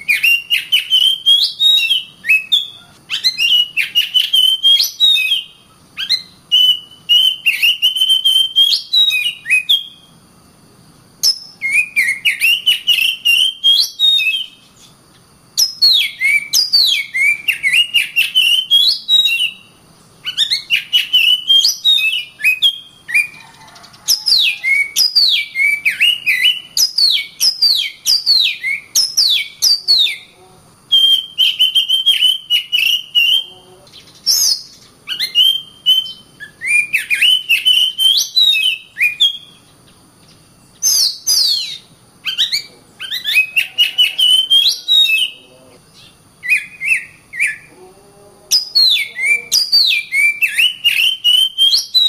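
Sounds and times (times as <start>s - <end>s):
bird singing whistled phrases: 0.0s - 10.1s, 11.2s - 14.9s, 15.6s - 39.6s, 40.8s - 47.7s, 48.5s - 52.0s.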